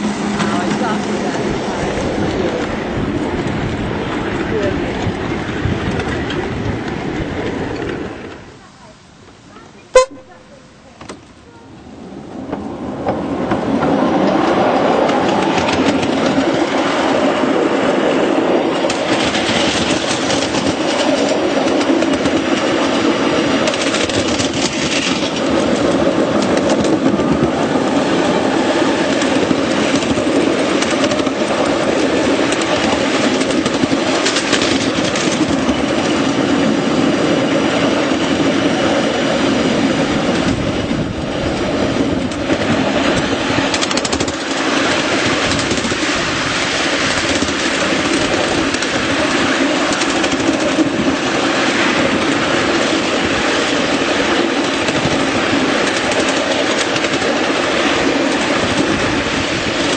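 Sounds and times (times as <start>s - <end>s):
wheels clacking over rail joints: 0.0s - 8.6s, 12.4s - 59.9s
small train wheels rumbling on rails: 0.0s - 59.9s.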